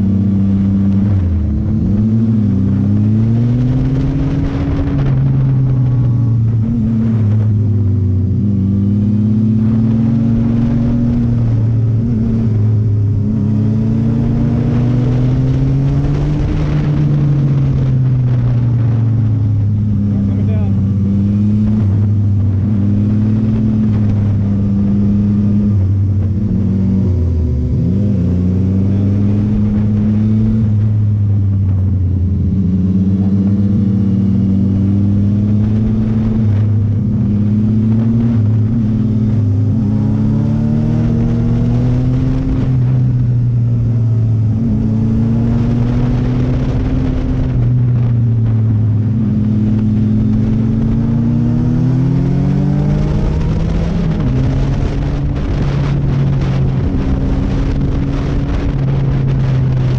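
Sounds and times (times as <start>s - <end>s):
motorcycle engine revving: 0.0s - 59.9s
steady rush of noise: 0.0s - 59.9s.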